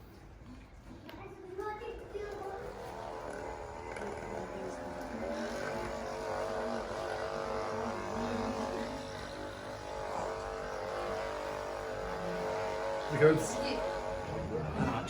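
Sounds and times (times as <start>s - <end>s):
motor-like droning hum: 2.1s - 15.0s.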